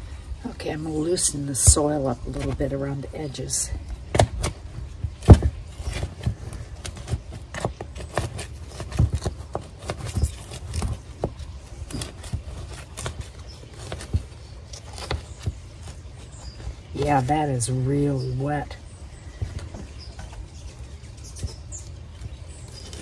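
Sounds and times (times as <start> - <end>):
wooden stick scraping soil: 0.4 - 23.0.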